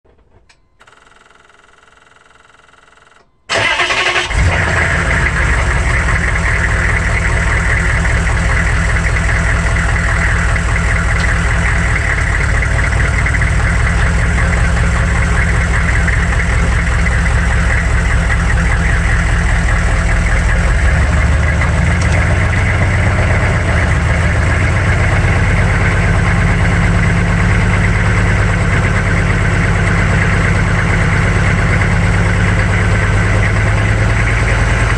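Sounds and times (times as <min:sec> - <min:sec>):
diesel engine starting and running: 0:03.2 - 0:34.9.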